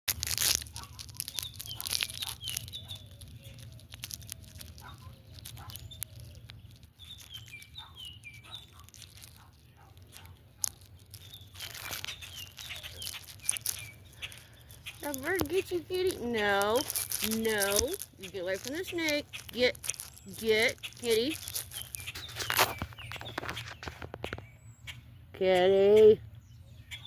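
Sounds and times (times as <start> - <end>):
rustling: 0.1 - 24.4
bird chirping: 0.6 - 27.0.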